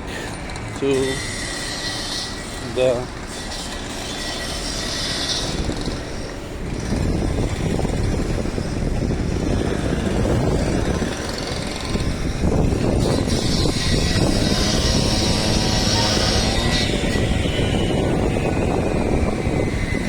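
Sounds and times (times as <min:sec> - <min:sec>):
train rumbling by: 0:00.0 - 0:20.0.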